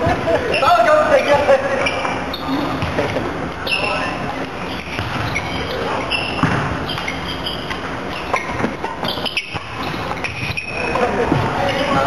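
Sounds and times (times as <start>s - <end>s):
shoes squeaking on floor: 0.0s - 12.0s
sports hall din: 0.0s - 12.0s.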